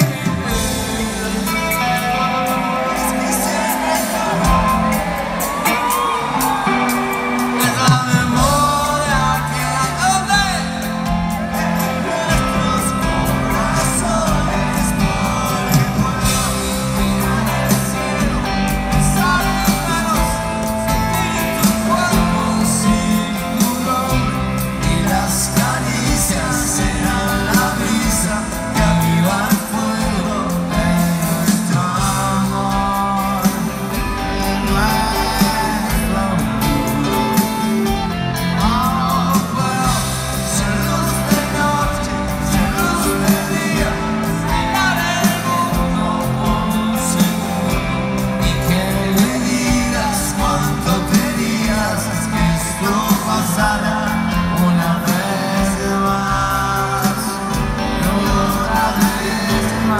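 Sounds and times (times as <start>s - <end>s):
crowd shouting: 0.0s - 59.9s
lead vocals: 0.0s - 59.9s
live rock band playing: 0.0s - 59.9s.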